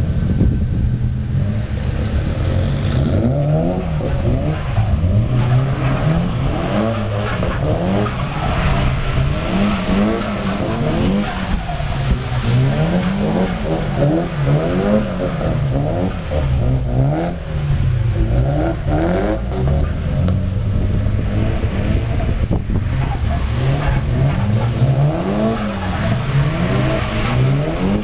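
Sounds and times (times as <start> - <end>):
car engines revving hard: 0.0 - 28.0.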